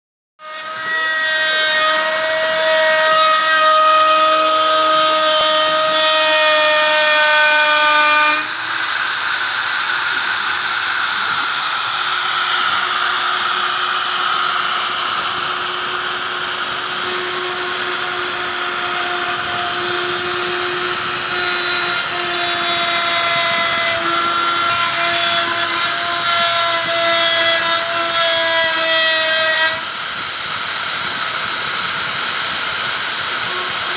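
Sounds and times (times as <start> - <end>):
hissing wood cutting: 0.4 - 33.9
router spindle whine: 0.4 - 33.9.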